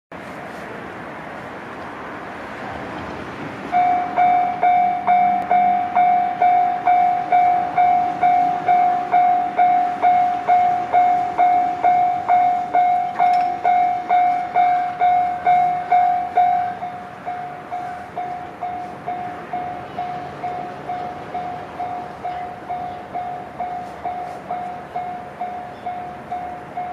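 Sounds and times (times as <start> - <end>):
level crossing warning bell: 3.7 - 26.9.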